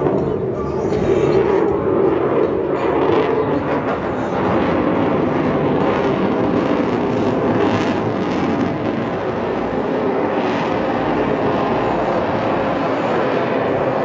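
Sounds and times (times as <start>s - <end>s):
jet engine rumble overhead: 0.0s - 14.0s.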